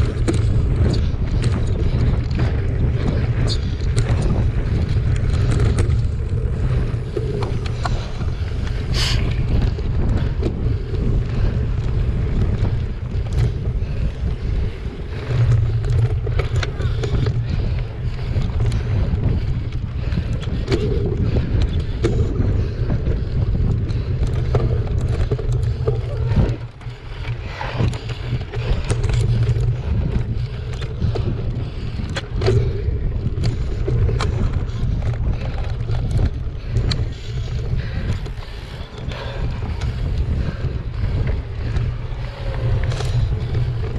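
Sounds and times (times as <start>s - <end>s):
mountain bike rattling on dirt trail: 0.0s - 43.9s
wind buffeting microphone: 0.0s - 43.9s.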